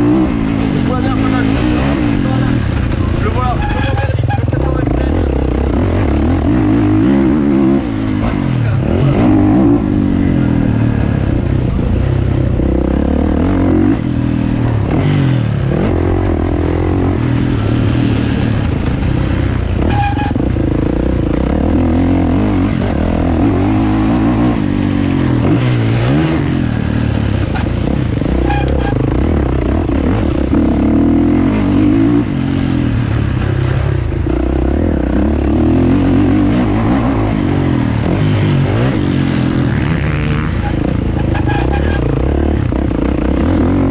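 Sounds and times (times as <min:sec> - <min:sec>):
motocross bike engine revving: 0:00.0 - 0:11.3, 0:12.0 - 0:43.9.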